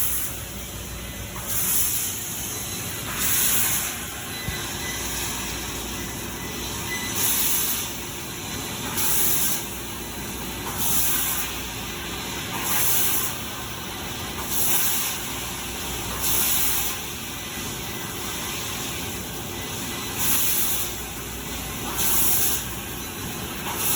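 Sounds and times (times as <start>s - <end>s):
laser cutting machine hum: 0.0s - 23.9s.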